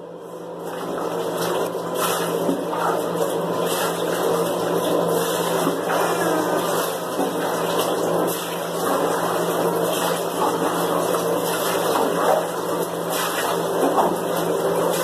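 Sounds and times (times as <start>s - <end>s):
water running from bathtub tap: 0.7s - 15.0s.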